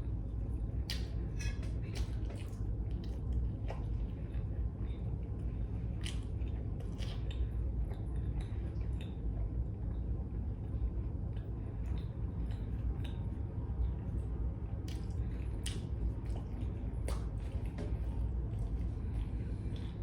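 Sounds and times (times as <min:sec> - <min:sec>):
steady low hum: 0:00.0 - 0:20.0
wet chewing and mouth smacks: 0:00.7 - 0:04.7, 0:05.3 - 0:10.0, 0:11.3 - 0:20.0.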